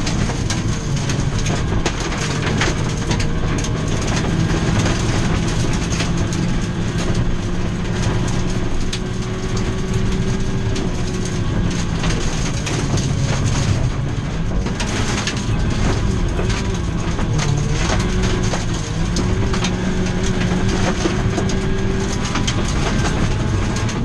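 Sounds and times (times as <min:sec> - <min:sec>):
rally car engine pulling hard: 0:00.0 - 0:24.0.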